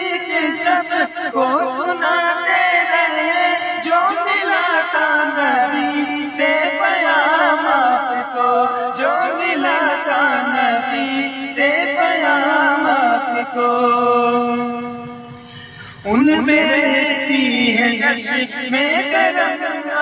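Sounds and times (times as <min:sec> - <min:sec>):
person singing ornamented notes: 0:03.9 - 0:20.0.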